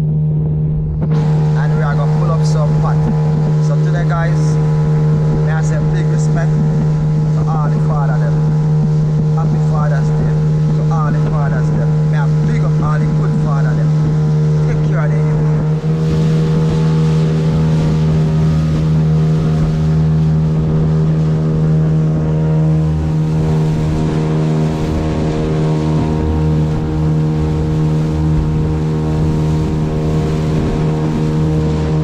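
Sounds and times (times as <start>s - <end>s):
boat motor droning: 0.0s - 32.0s
wind and water hiss: 0.9s - 32.0s.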